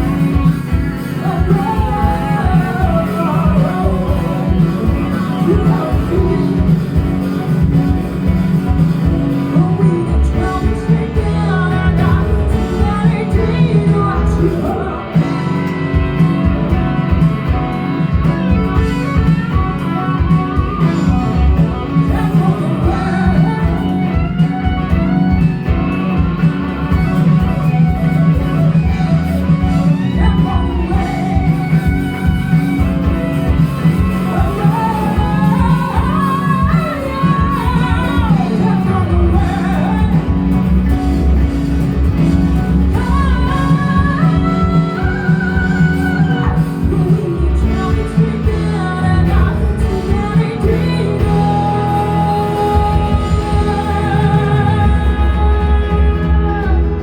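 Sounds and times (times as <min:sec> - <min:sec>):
person singing: 0:00.0 - 0:41.3, 0:42.2 - 0:57.0
live rock band playing: 0:00.0 - 0:57.0.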